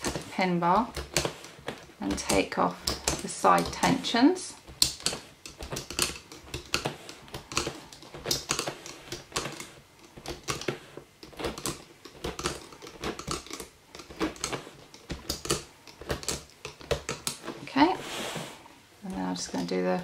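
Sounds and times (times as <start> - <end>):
loom hook clicking on plastic pins: 0.0 - 17.6.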